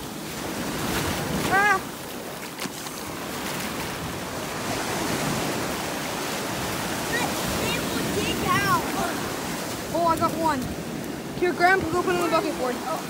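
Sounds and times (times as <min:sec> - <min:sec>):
surf washing over sand: 0:00.0 - 0:13.0.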